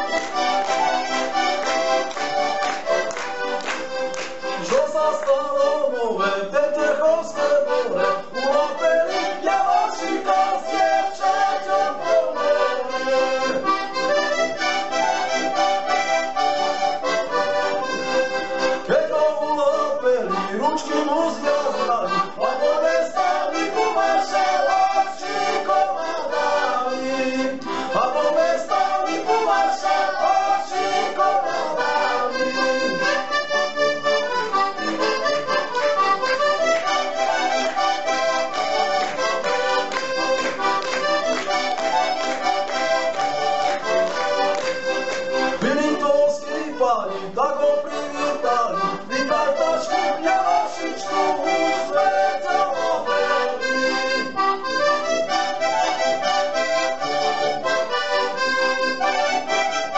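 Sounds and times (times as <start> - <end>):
button accordions playing folk tune: 0.0 - 59.9.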